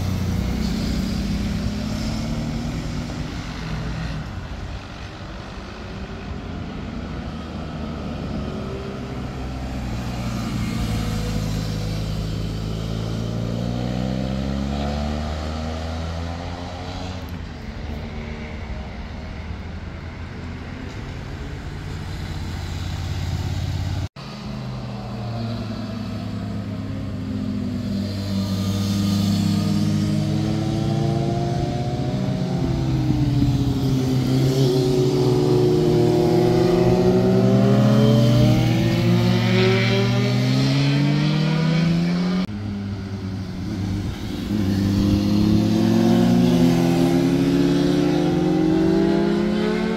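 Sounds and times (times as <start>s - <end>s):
cars passing: 0.0s - 49.9s
motorcycle engines passing: 0.0s - 49.9s.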